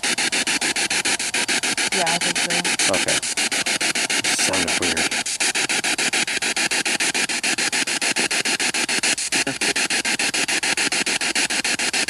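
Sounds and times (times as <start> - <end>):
pulsing radio static: 0.0 - 12.0.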